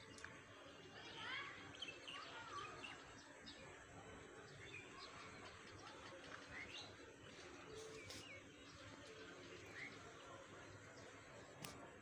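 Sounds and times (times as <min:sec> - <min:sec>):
birds chirping: 0:00.0 - 0:12.0
low outdoor background noise: 0:00.0 - 0:12.0.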